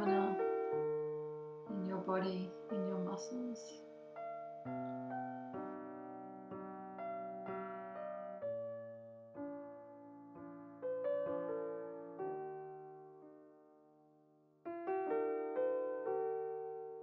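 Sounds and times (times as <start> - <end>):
slow gentle piano music: 0.0 - 17.0.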